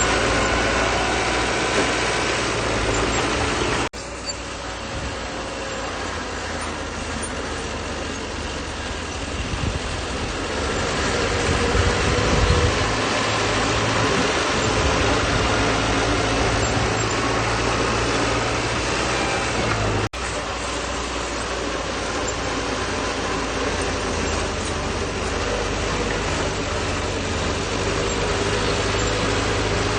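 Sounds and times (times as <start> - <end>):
bulldozer diesel engine under load: 0.0 - 29.9.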